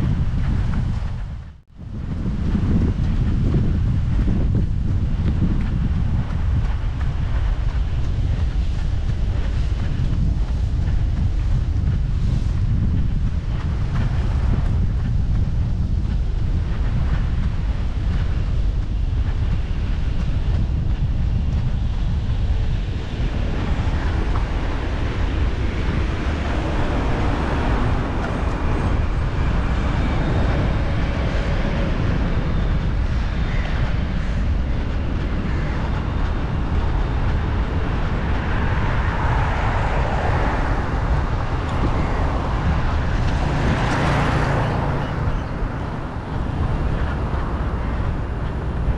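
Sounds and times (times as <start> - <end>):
road traffic: 0.0 - 48.9
vehicles passing: 0.0 - 48.9
wind noise on microphone: 0.0 - 48.9.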